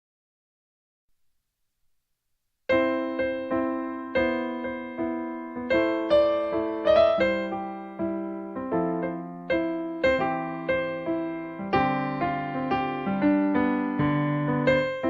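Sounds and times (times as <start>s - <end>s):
electric piano chords: 2.7s - 15.0s.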